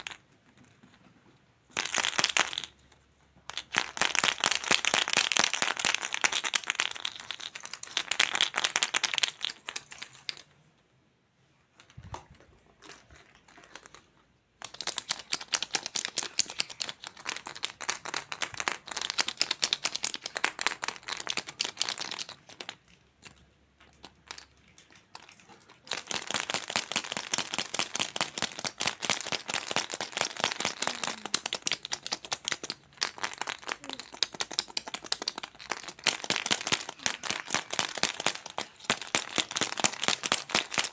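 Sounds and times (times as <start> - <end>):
plastic crinkling: 6.2 - 10.7, 11.7 - 40.9.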